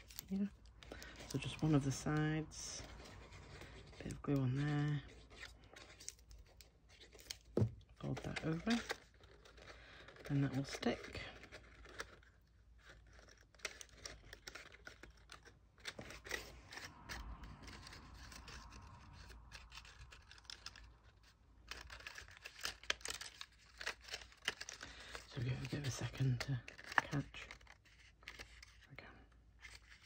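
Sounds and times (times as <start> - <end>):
stiff paper crackling and rustling: 0.0 - 30.0.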